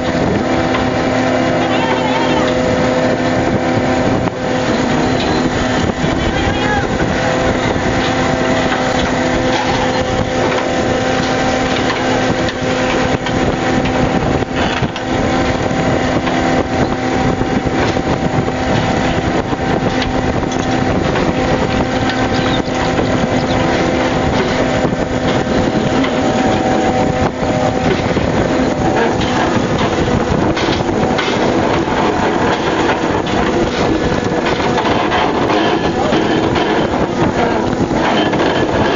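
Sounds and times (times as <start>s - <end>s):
boat engine and machinery hum: 0.0s - 38.9s
wind rushing: 2.2s - 38.9s.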